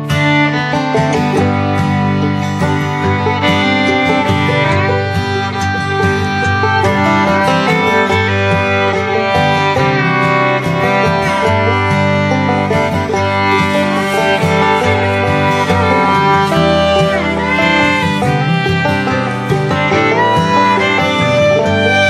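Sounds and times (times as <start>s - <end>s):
instrumental music sustained sliding notes: 0.0s - 22.0s.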